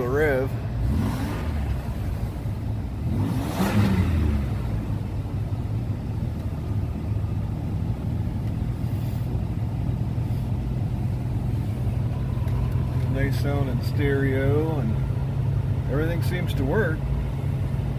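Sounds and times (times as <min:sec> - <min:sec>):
car engine revving and idling: 0:00.0 - 0:17.9.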